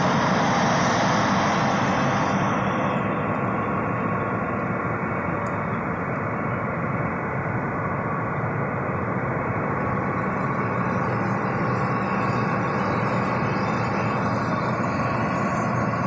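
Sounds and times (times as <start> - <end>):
cotton picker engine drone: 0.0 - 16.0.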